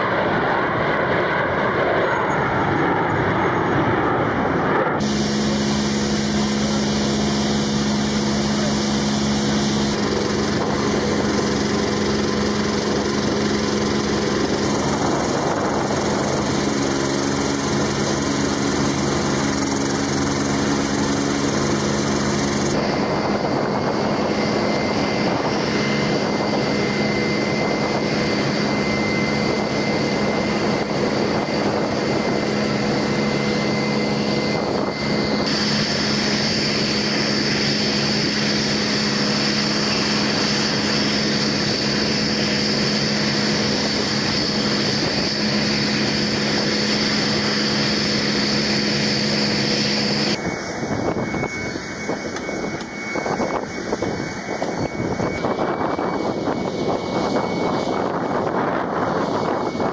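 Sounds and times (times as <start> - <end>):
high turbine whine: 0.0 - 59.9
jet engines idling: 0.0 - 59.9.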